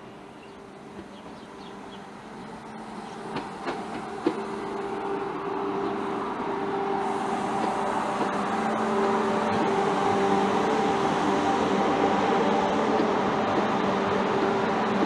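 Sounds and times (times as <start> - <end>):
electric train mechanical whine: 0.0 - 15.0.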